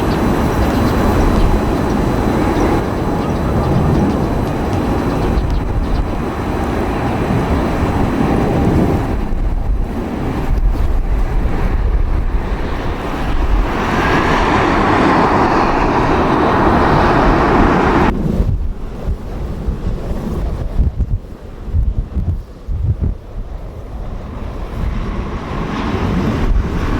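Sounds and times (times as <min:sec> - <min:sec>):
jet airliner noise: 0:00.0 - 0:26.9
wind rumbling on microphone: 0:00.0 - 0:26.9.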